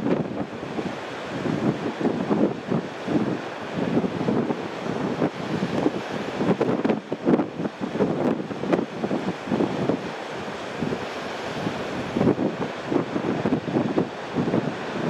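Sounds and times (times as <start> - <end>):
sea waves and surf: 0.0 - 15.0
wind buffeting microphone: 0.0 - 15.0.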